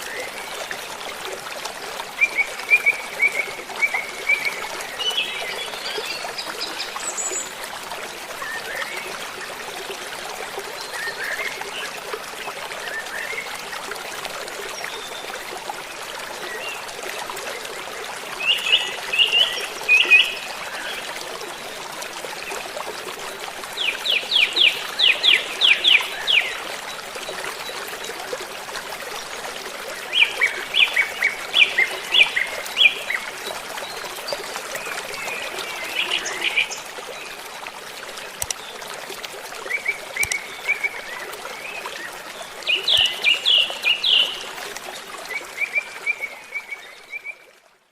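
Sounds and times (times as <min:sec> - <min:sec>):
trickling water: 0:00.0 - 0:47.9.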